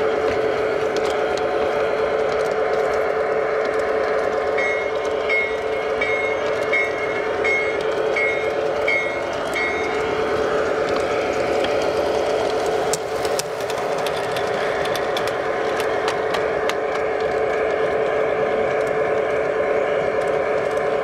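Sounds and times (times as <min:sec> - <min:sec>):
model train motor hum: 0:00.0 - 0:21.0.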